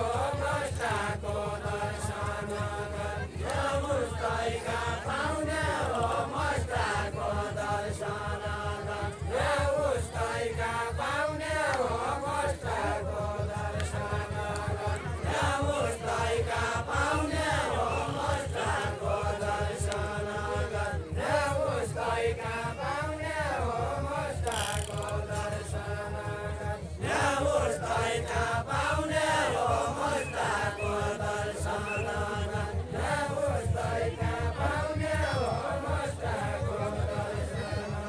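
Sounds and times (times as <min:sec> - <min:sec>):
group singing folk song: 0:00.0 - 0:38.0.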